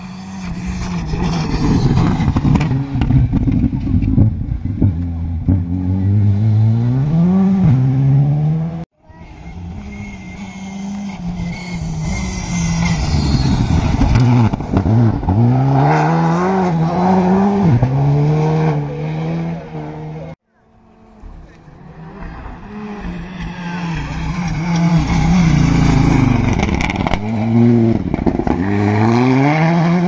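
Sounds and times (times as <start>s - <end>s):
rally car engines at full throttle: 0.0s - 30.0s.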